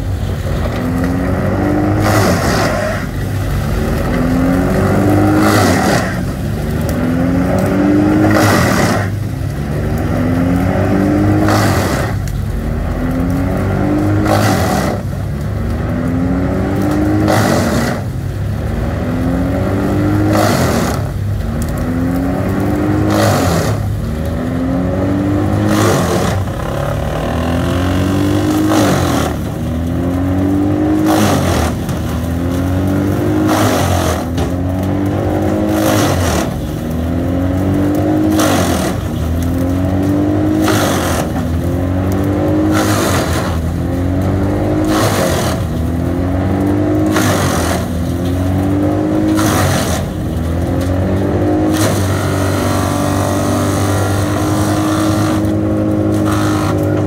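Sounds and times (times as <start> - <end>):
diesel engine running: 0.0 - 57.0
wood chipper chipping log: 0.0 - 57.0.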